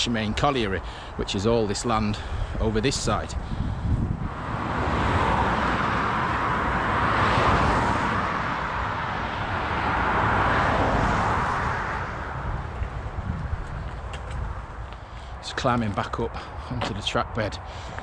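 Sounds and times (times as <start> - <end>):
passing cars: 0.0 - 18.0.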